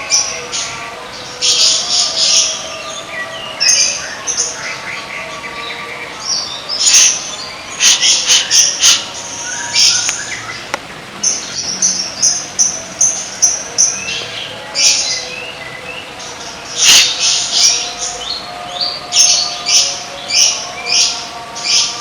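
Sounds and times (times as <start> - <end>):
chorus of birds or insects: 0.0 - 22.0
songbird singing: 0.0 - 22.0.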